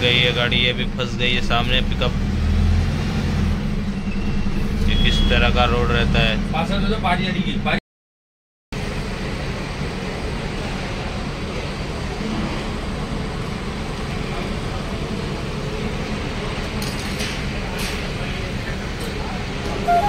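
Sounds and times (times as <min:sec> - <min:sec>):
diesel bus engines idling: 0:00.0 - 0:07.7, 0:08.8 - 0:20.0.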